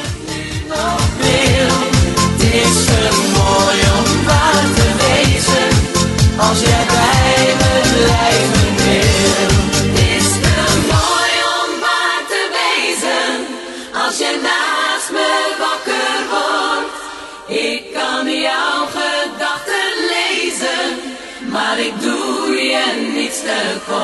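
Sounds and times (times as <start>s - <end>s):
choir-like voices singing wordlessly: 0.0s - 24.0s
pop song: 0.0s - 24.0s.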